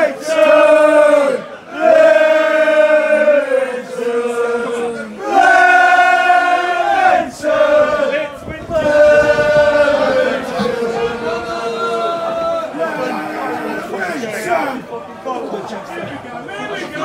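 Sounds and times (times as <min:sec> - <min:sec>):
football fans chanting: 0:00.0 - 0:14.9.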